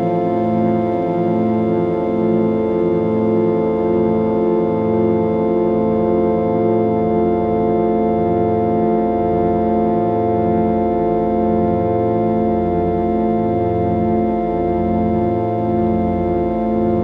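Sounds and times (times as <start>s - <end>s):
layered synthesized drone: 0.0s - 17.0s.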